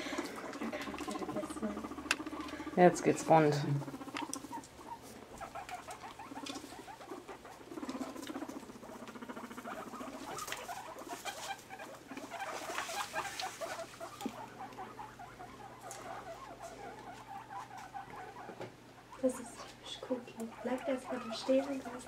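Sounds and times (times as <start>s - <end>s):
rustling in wood shavings: 0.0s - 18.0s, 19.2s - 22.0s
guinea pigs calling: 0.0s - 22.0s.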